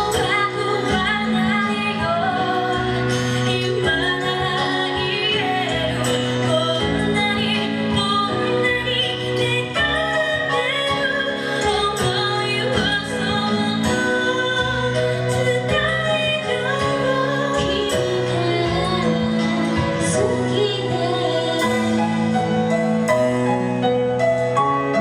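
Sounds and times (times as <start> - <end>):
woman singing: 0.0 - 22.9
instrumental accompaniment: 0.0 - 25.0.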